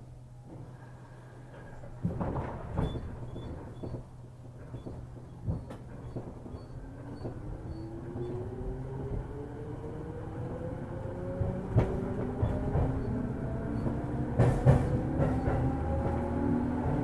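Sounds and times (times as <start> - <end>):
train clunks: 0.4 - 10.2, 11.0 - 17.0.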